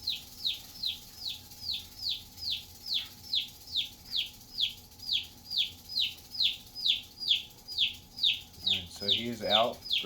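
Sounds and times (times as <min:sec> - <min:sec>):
chick peeping: 0:00.0 - 0:10.0.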